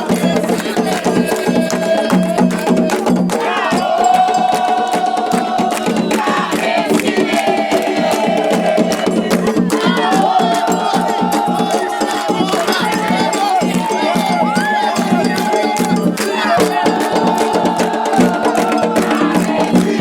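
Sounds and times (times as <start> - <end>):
fast dense drumming: 0.0 - 20.0
voices chanting long notes: 0.0 - 20.0.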